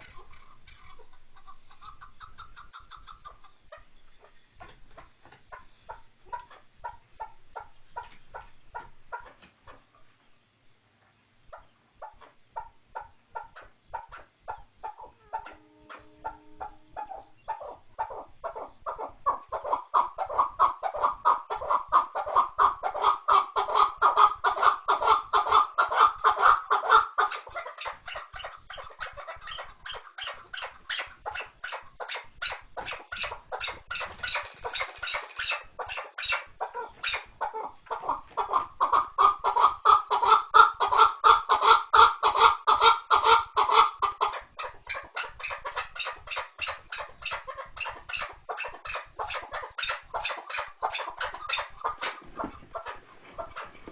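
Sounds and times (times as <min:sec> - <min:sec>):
partridge calling: 0:00.0 - 0:10.1, 0:11.5 - 0:53.7.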